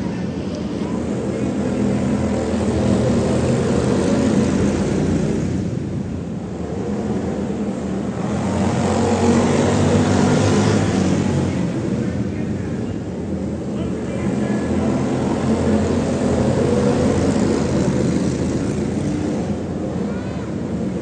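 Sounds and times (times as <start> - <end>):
small racing engines droning: 0.0 - 21.0.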